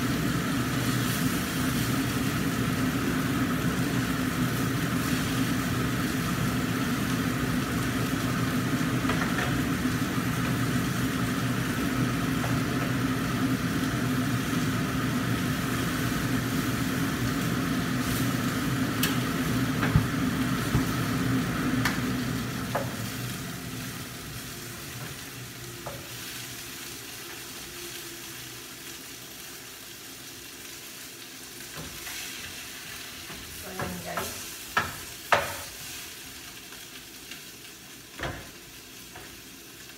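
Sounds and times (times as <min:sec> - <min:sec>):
fish sizzling in a wok: 0:00.0 - 0:39.9
low stove rumble: 0:00.0 - 0:39.9.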